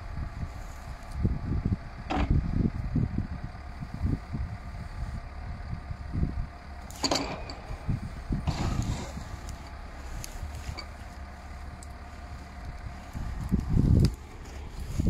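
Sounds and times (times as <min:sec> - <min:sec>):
crackling rustle of branches: 0:00.0 - 0:15.0
distant tractor diesel engine: 0:00.0 - 0:15.0
faint steady whine: 0:00.0 - 0:15.0.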